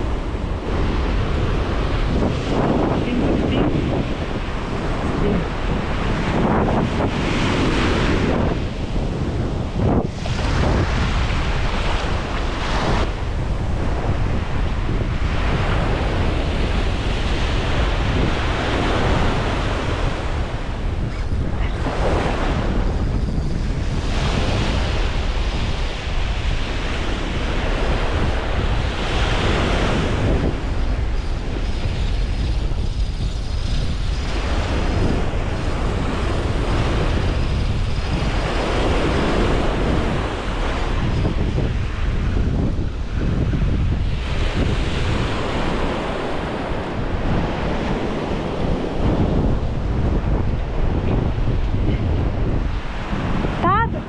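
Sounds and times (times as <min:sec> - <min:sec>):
ocean surf on sandy beach: 0:00.0 - 0:54.0
wind buffeting microphone: 0:00.0 - 0:54.0.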